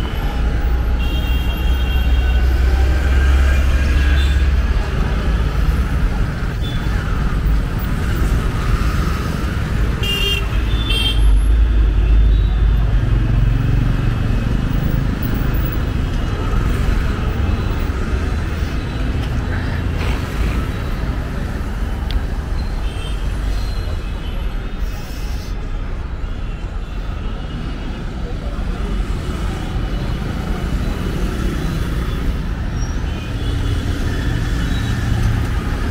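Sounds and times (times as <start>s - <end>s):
traffic rumble: 0.0s - 35.9s.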